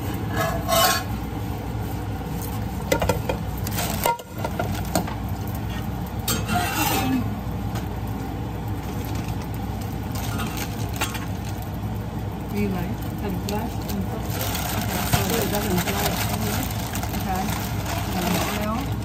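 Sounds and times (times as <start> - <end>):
stovetop low hum: 0.0 - 19.0.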